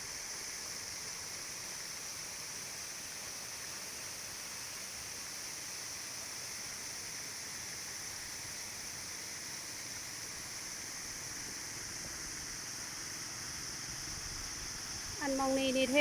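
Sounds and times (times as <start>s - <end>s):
waterfall hissing into pond: 0.0s - 16.0s.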